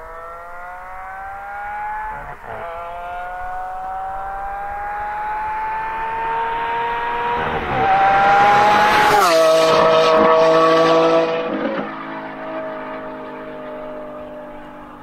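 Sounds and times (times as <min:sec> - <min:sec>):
sports car accelerating past: 0:00.0 - 0:15.0.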